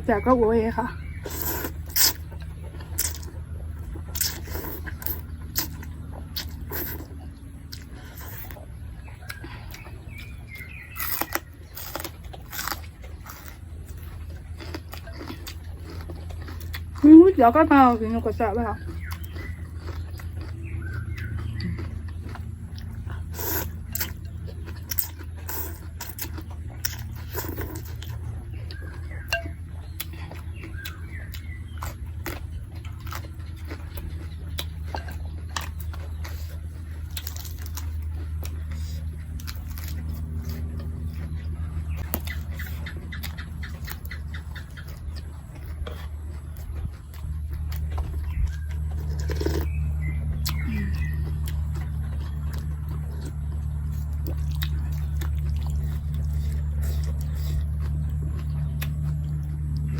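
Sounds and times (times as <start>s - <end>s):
steady low hum: 0.0s - 59.9s
person chewing and slurping: 0.9s - 59.9s.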